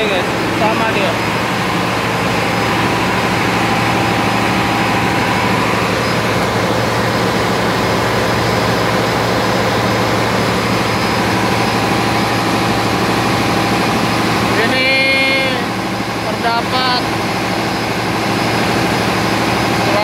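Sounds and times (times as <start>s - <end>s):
diesel generator droning: 0.0s - 20.0s.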